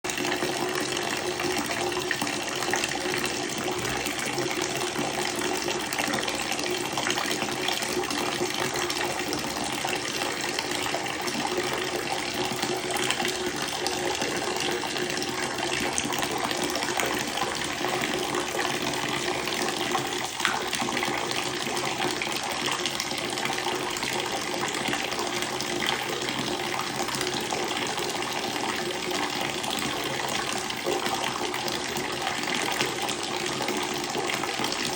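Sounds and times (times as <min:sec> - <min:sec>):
water running from a tap: 0:00.0 - 0:34.9.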